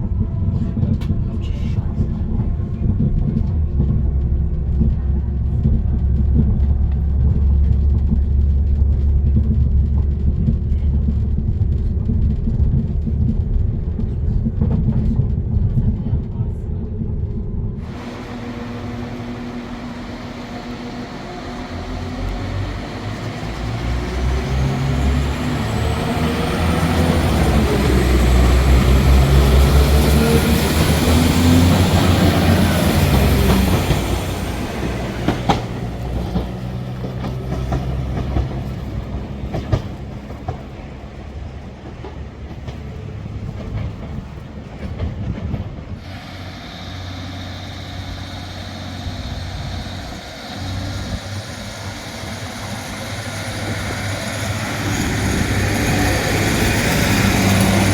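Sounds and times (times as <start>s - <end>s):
train rumbling on rails: 0.0s - 57.9s.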